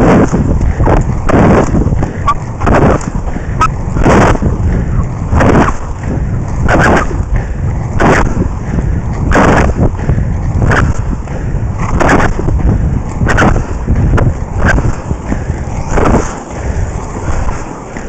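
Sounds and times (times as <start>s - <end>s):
skate wheels rumbling on asphalt: 0.0s - 18.0s
wind rushing over microphone: 0.0s - 18.0s.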